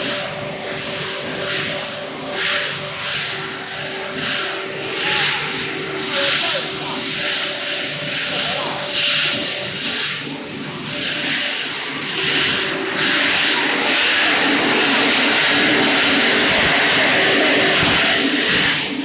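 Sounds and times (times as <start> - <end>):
low machine hum: 0.0 - 19.0
rushing hiss of blower: 0.0 - 19.0.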